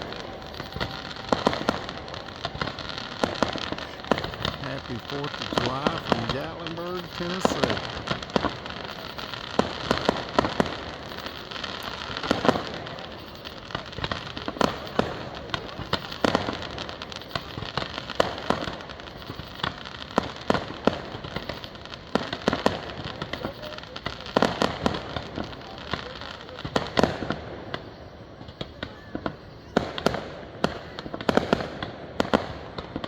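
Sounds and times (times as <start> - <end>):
fireworks bangs and pops: 0.0 - 33.0.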